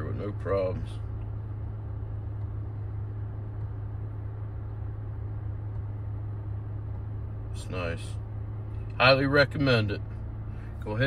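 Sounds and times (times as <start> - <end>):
car cabin hum and hiss: 0.0 - 11.0.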